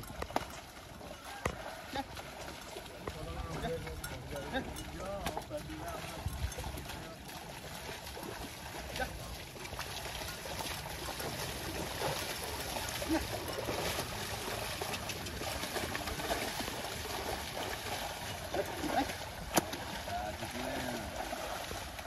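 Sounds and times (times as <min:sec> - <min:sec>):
water and mud sloshing: 0:00.0 - 0:22.0.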